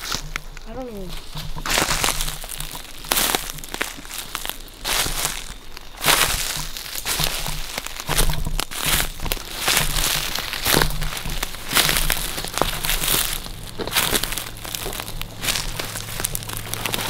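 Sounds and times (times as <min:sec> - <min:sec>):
brushing through twigs: 0:00.0 - 0:17.0
footsteps crunching dry leaves: 0:00.0 - 0:17.0.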